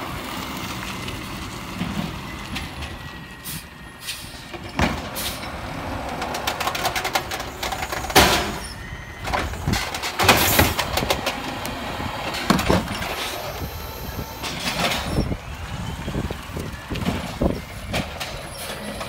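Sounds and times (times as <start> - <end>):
cart clanking and rattling: 0.0 - 19.0
garbage truck engine and hydraulics: 0.0 - 19.0.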